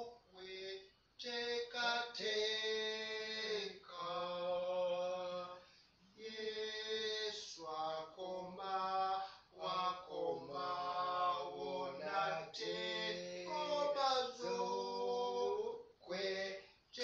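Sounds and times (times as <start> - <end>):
man singing unaccompanied: 0.0 - 5.6, 6.2 - 17.0.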